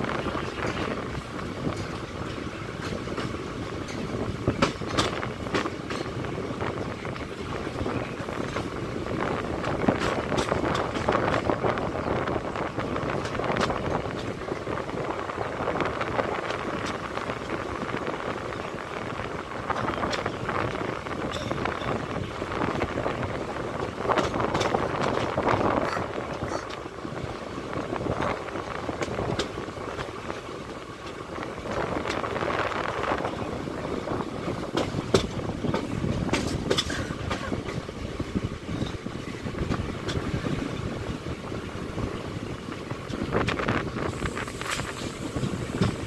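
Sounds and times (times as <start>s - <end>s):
train rumbling on rails: 0.0s - 46.0s
wheels clicking over track: 0.0s - 46.0s.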